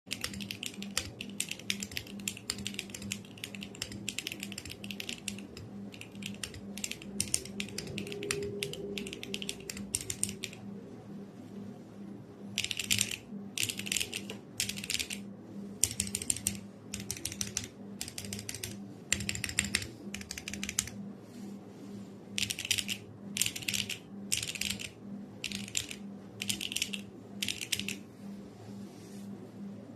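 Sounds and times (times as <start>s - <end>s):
mechanical keyboard typing: 0.1s - 10.6s, 12.6s - 15.2s, 15.8s - 21.0s, 22.4s - 28.0s.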